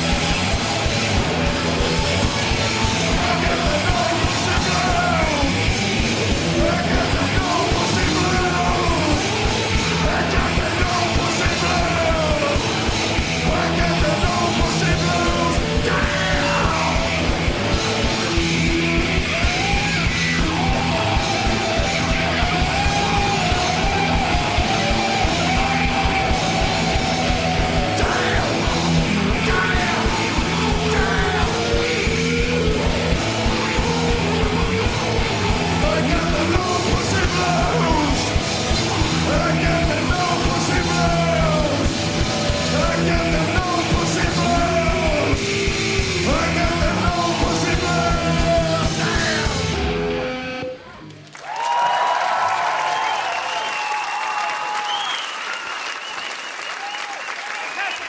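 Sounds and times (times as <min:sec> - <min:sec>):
distorted live rock band: 0:00.0 - 0:51.2.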